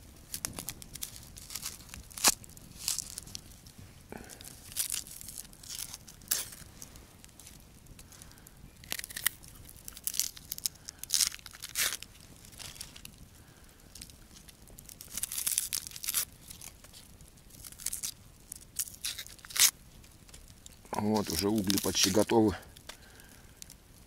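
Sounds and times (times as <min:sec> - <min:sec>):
onion skin crackling under knife: 0:00.0 - 0:23.8.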